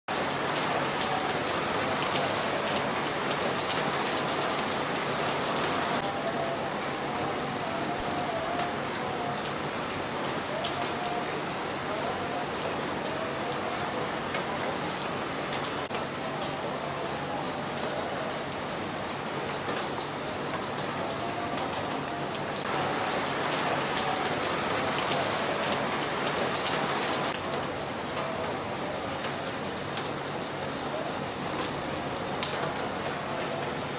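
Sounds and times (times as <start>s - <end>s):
rain hissing: 0.1s - 33.9s.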